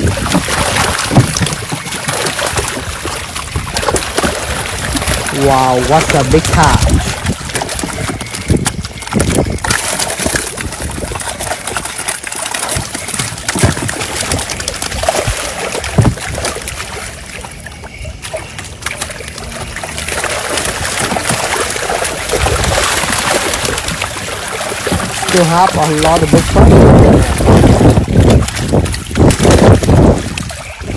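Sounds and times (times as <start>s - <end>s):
fish thrashing and splashing in water: 0.0s - 30.9s.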